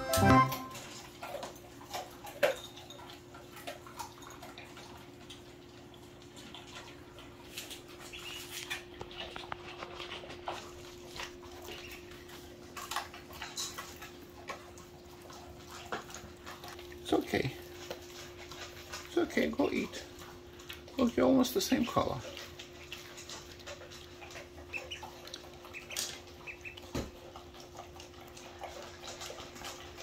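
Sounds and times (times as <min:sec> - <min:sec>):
animals crunching dry food: 0:00.0 - 0:30.0.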